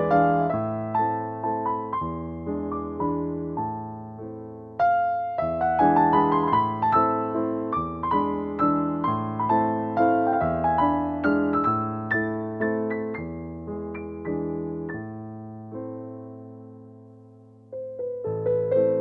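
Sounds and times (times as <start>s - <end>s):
gentle piano tune: 0.0s - 19.0s.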